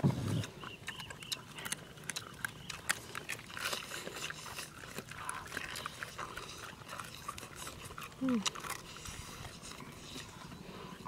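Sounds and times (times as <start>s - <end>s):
person chewing and lip smacking: 0.3s - 11.0s.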